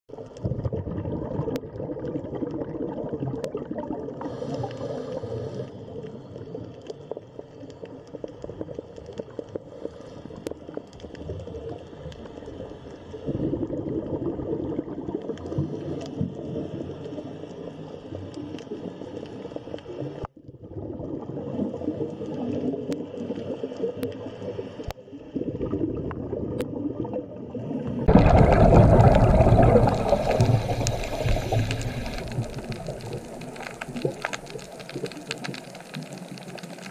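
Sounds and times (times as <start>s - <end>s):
underwater rushing gurgling water: 0.1s - 36.9s.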